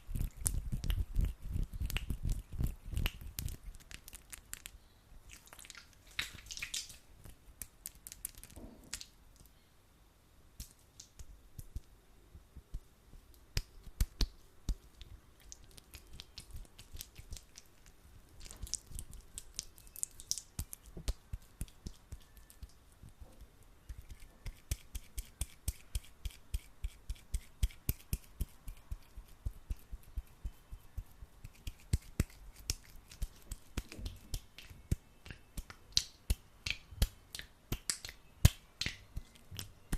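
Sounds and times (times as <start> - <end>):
hands squeezing sticky gel: 0.0 - 9.5, 13.4 - 23.2, 23.8 - 39.9.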